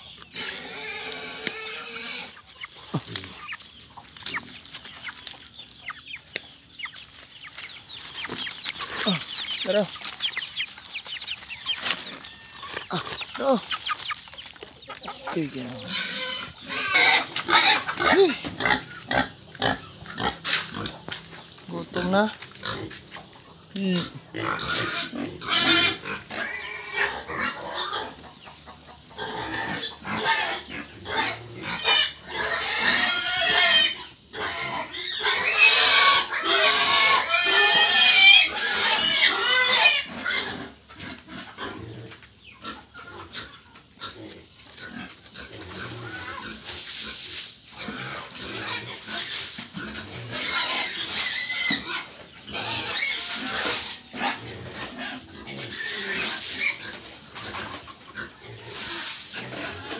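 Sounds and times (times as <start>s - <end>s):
pigs squealing: 0.0s - 21.0s, 23.8s - 59.9s.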